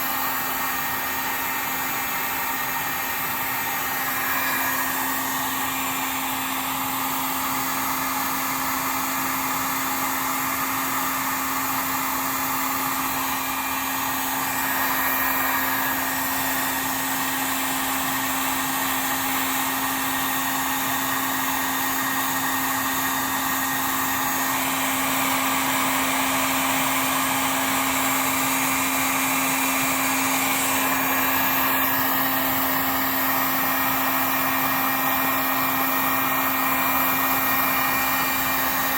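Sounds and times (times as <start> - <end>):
heat gun blowing and humming: 0.0 - 38.9.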